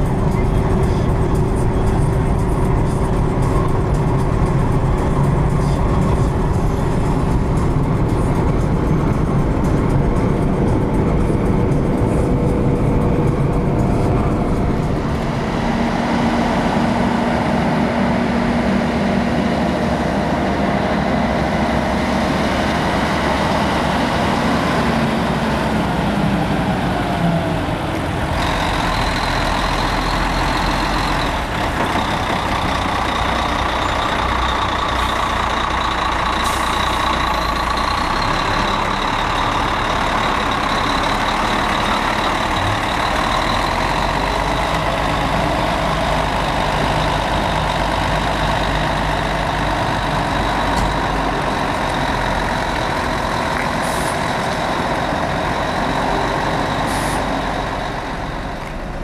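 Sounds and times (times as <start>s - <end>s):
diesel truck engines: 0.0s - 59.0s.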